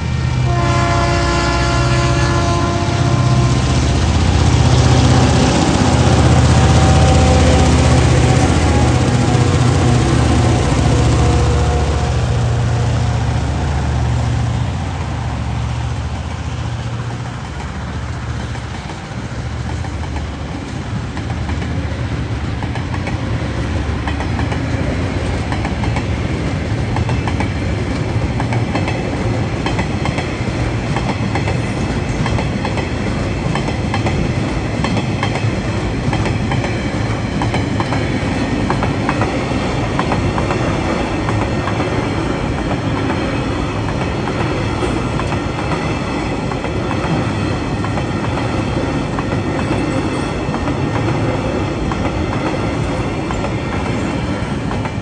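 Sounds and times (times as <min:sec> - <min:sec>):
diesel locomotives at full throttle: 0:00.0 - 0:55.0
train wheels clacking over rails: 0:03.0 - 0:55.0.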